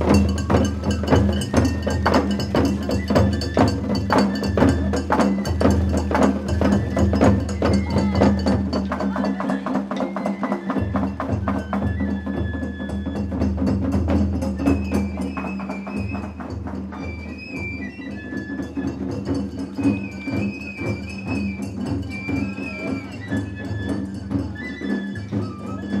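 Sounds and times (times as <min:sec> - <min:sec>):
high bamboo flute melody: 0:00.0 - 0:26.0.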